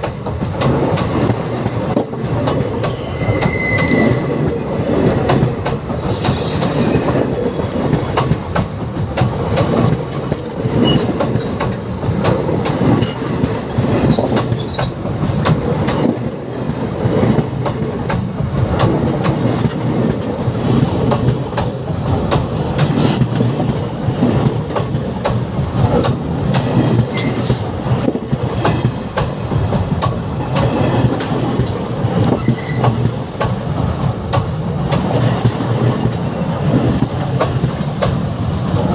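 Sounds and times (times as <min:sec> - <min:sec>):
train coaches rumbling: 0:00.0 - 0:38.9
wheels clicking over rail joints: 0:00.0 - 0:38.9.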